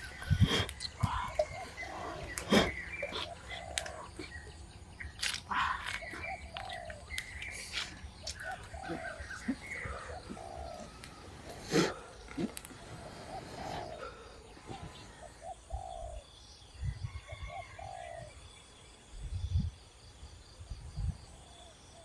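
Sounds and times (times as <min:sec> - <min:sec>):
birds chirping and calling: 0:00.0 - 0:18.4.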